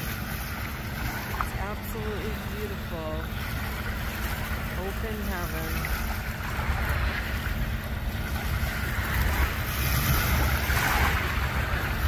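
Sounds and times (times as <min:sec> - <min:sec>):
small waves washing: 0:00.0 - 0:12.0
wind buffeting microphone: 0:00.0 - 0:12.0.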